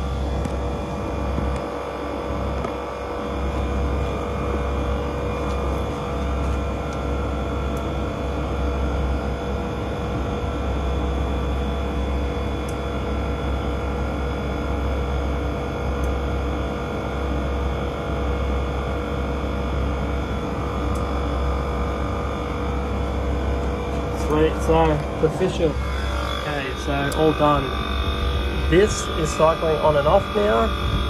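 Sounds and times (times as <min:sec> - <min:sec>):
air conditioner humming: 0:00.0 - 0:31.0.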